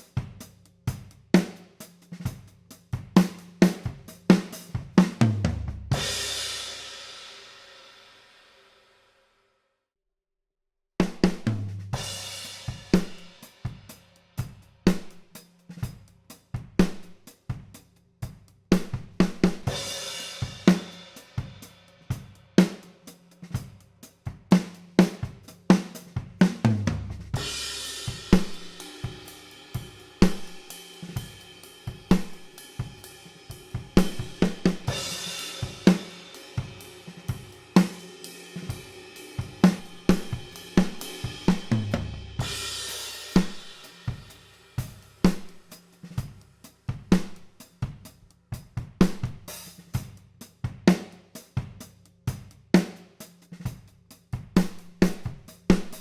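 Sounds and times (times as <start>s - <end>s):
drum kit playing a groove: 0.0s - 7.5s, 11.0s - 56.0s.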